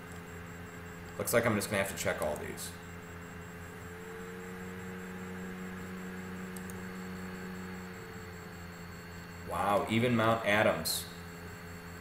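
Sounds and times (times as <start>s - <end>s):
faint steady tones: 0.0s - 12.0s
low electrical hum: 0.0s - 12.0s.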